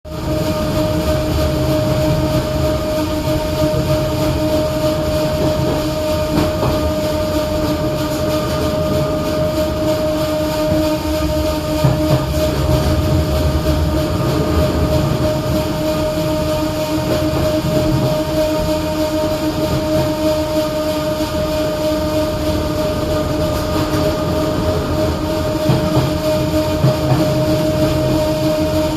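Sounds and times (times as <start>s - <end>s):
train wheels rumbling on rails: 0.1s - 28.9s.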